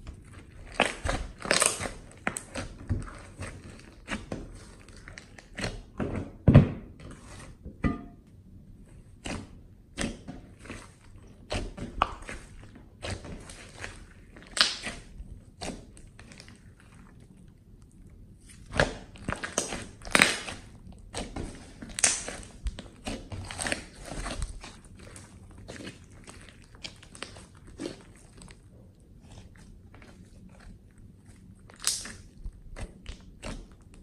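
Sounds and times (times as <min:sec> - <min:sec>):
slime squelching: 0:00.0 - 0:34.0.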